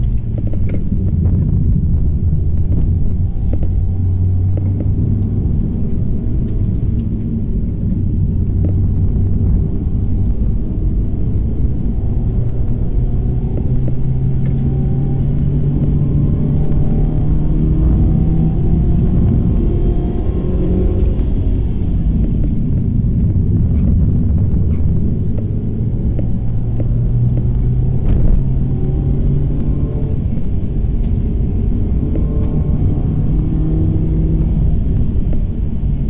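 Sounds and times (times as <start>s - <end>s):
car engine hum in cabin: 0.0s - 36.0s.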